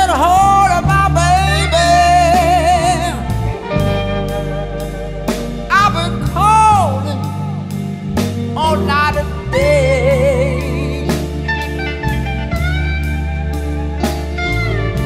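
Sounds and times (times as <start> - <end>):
band music: 0.0 - 15.0
wavering lead line: 0.0 - 15.0.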